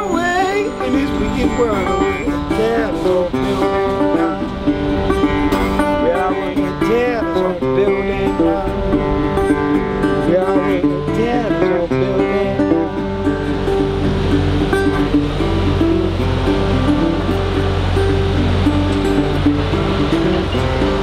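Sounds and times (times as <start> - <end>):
resonator guitar blues: 0.0 - 21.0.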